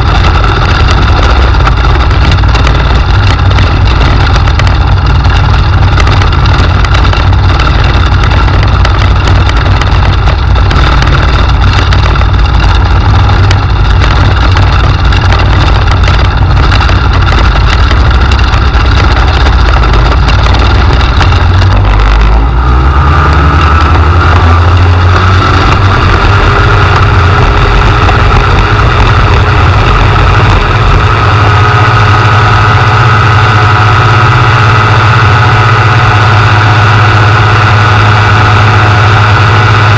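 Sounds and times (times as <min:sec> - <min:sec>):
microlight engine running: 0:00.0 - 0:39.9.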